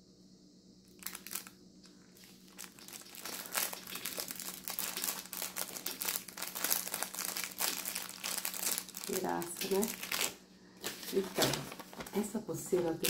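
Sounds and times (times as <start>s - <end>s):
plastic bag crinkling: 0.9s - 13.0s.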